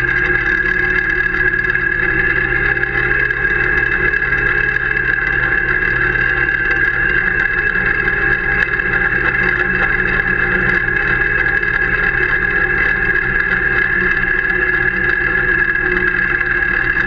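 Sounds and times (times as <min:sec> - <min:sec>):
steady high whine: 0:00.0 - 0:17.0
tractor and aerator droning: 0:00.0 - 0:17.0.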